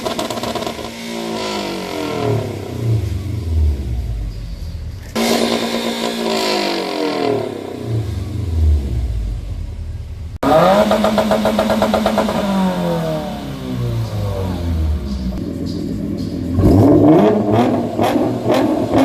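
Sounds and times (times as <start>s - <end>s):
car engine revving loudly: 0.0s - 19.0s.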